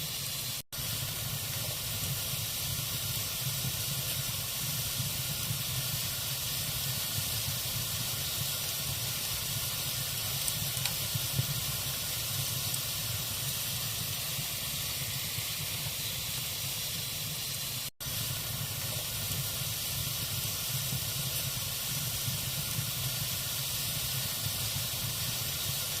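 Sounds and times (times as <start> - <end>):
fire crackles: 0.0 - 26.0
log fire hissing: 0.0 - 26.0.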